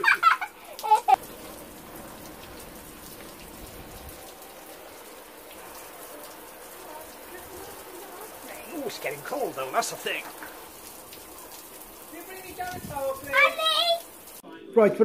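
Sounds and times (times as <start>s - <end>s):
shower water pattering: 0.0s - 14.4s.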